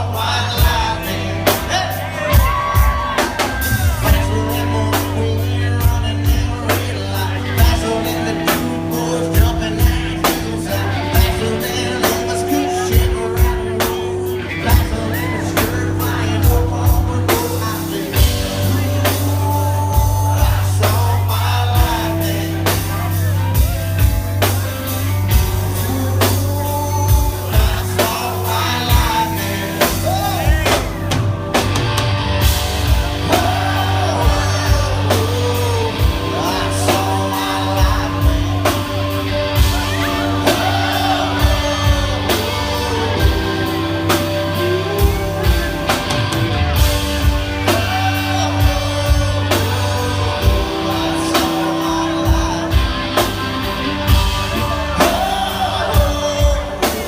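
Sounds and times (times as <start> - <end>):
person singing: 0.0 - 31.8, 32.4 - 57.0
electric guitar bending notes: 0.0 - 57.0
live rock band playing: 0.0 - 57.0.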